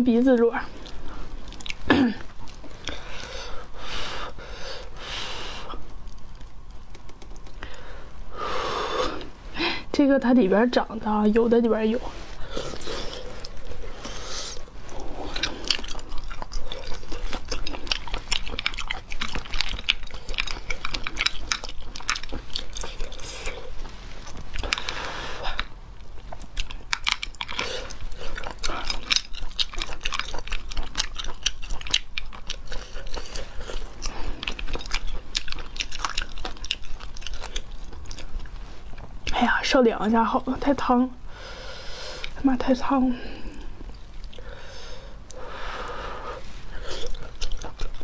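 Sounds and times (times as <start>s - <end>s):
wet chewing and sucking: 0.4s - 9.5s, 11.8s - 39.5s, 40.2s - 48.0s.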